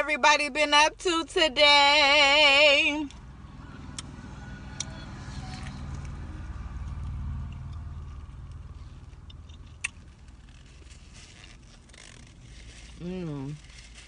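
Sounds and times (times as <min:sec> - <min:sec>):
vehicle rumble inside car: 0:00.0 - 0:14.0.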